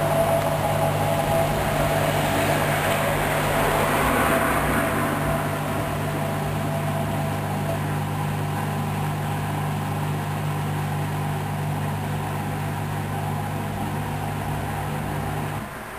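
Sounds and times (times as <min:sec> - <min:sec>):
washing machine spinning: 0:00.0 - 0:15.9.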